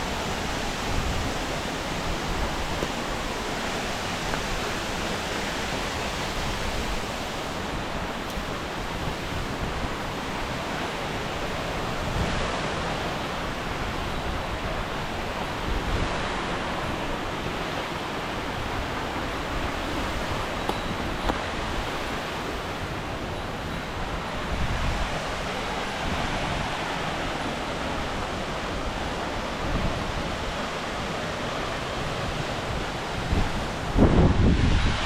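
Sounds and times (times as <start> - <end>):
waterfall rushing: 0.0 - 35.0
wind buffeting microphone: 0.0 - 35.0.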